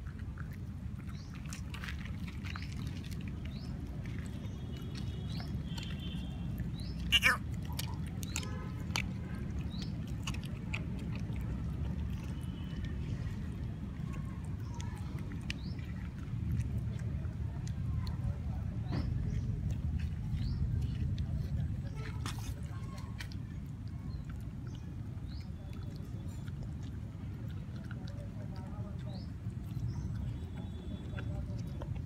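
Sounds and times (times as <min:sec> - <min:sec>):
puppy chewing from metal bowl: 0:00.0 - 0:32.0.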